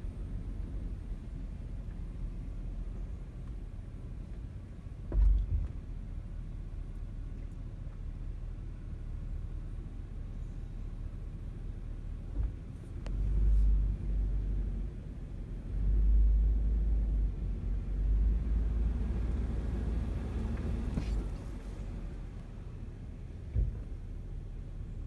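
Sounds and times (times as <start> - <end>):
car engine rumble inside cabin: 0.0 - 25.0.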